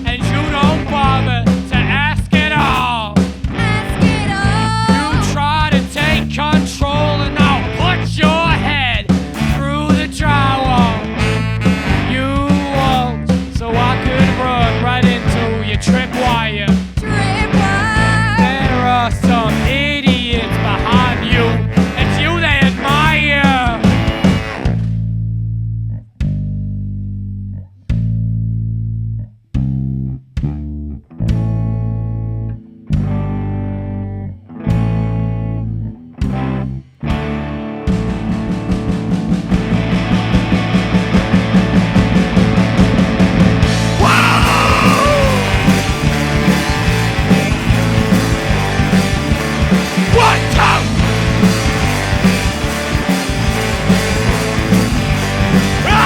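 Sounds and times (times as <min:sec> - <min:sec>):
guitar playing low notes: 0:00.0 - 0:24.9, 0:30.0 - 0:56.0
rock band with saxophones: 0:00.0 - 0:25.2, 0:31.2 - 0:56.0
bass guitar: 0:00.0 - 0:56.0.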